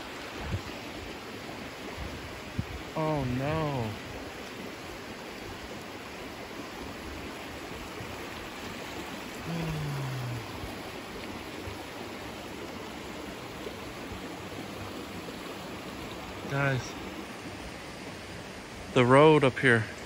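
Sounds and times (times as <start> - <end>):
floodwater rushing down a gully: 0.0 - 20.0.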